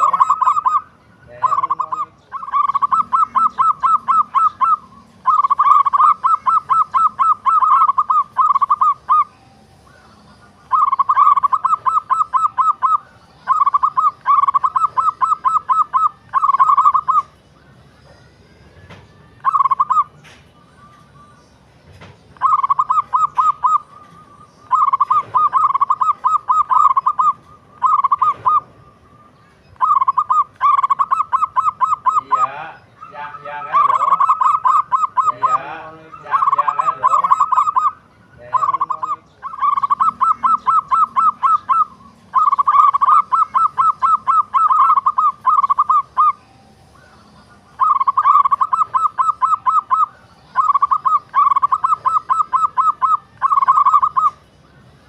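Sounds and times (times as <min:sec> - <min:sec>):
dove cooing: 0:00.0 - 0:17.4, 0:18.8 - 0:20.4, 0:21.2 - 0:54.5.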